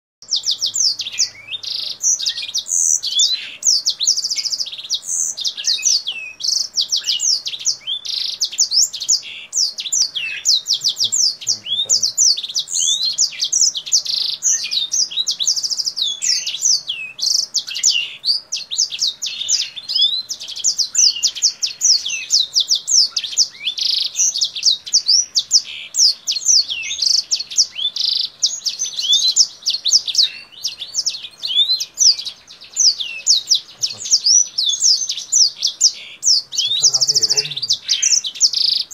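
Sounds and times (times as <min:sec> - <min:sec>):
finch singing high twittering song: 0:00.2 - 0:38.9.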